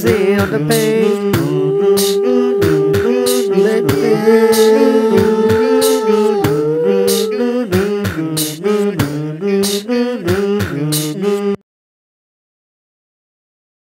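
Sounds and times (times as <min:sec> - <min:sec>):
wordless sung harmonies: 0:00.0 - 0:11.6.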